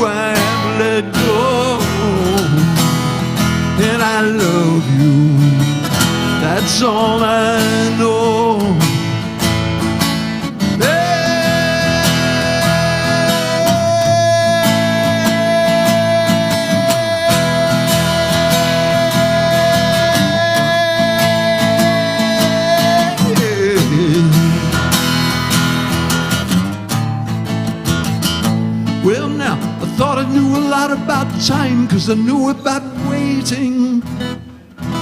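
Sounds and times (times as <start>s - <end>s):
live country band playing: 0.0s - 35.0s.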